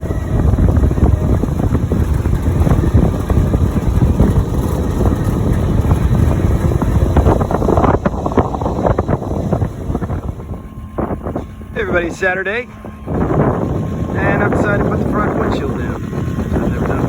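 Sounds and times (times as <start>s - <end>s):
truck engine and road noise: 0.0s - 17.0s
wind buffeting microphone: 0.0s - 17.0s.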